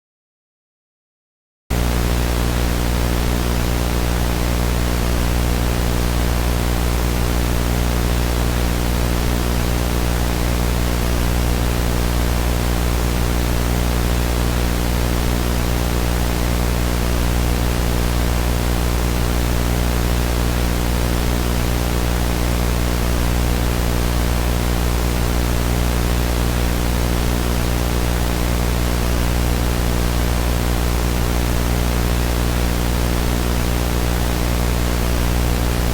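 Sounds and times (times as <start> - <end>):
low electrical buzz: 1.8 - 35.9
static hiss: 1.8 - 35.9.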